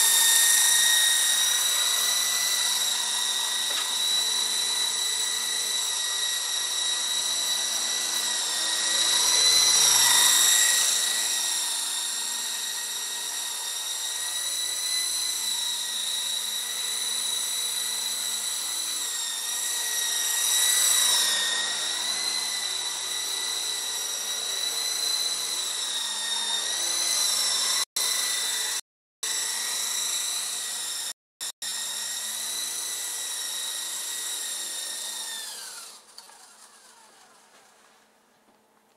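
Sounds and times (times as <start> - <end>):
rc helicopter motor whining: 0.0 - 38.1.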